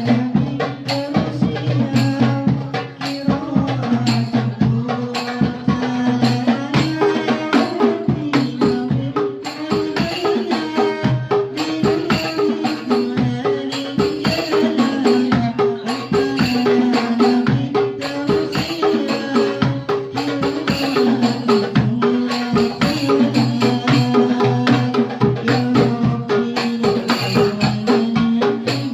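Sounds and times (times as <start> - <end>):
hand drums playing fast rhythm: 0.0 - 28.9.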